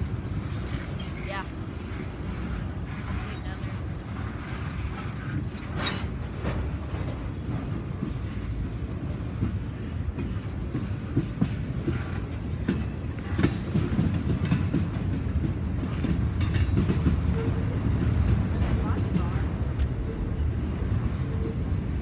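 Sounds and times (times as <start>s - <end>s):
train rumbling past: 0.0s - 22.0s
wheels clicking over rail joints: 0.0s - 22.0s.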